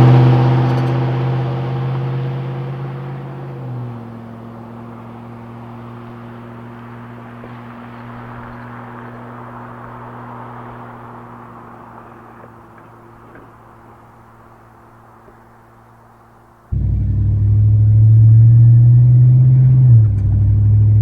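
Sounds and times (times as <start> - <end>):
truck exhaust drone: 0.0 - 21.0.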